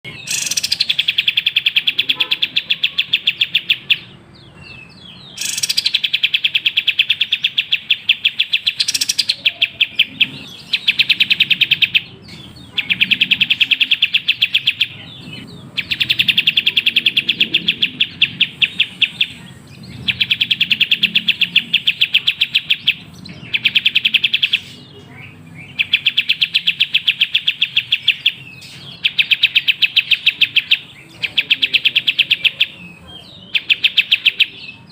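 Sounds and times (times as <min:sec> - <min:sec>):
bird chattering trill: 0:00.0 - 0:34.9.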